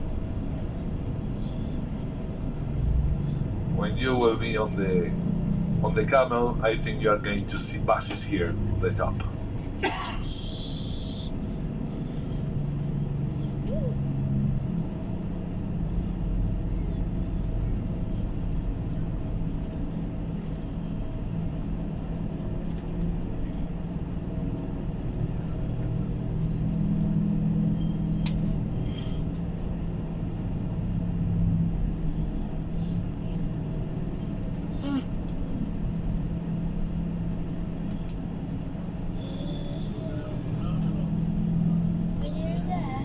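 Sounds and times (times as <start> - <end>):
vehicle engine and road rumble: 0.0 - 43.0.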